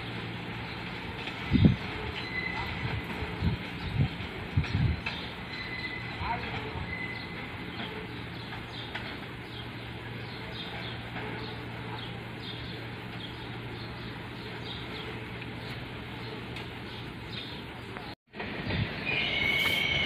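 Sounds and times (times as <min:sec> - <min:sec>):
small birds chirping: 0:00.0 - 0:18.2.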